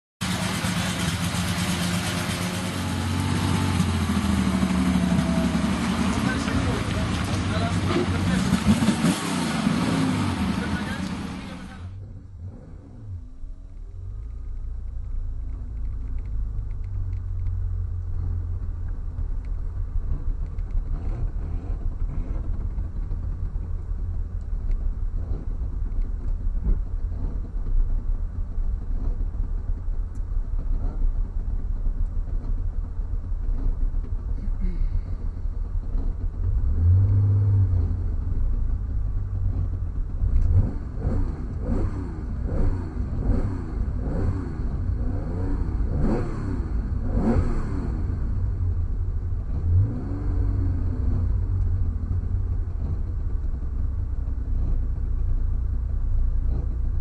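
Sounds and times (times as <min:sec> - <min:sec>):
car engine drone from inside: 0:00.2 - 0:57.0.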